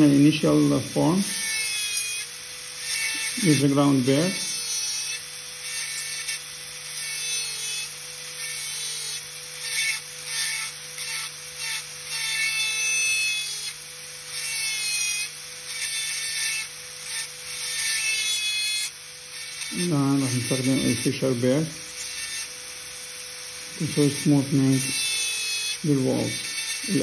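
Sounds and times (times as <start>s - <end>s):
dental drill grinding tooth: 0.0s - 27.0s.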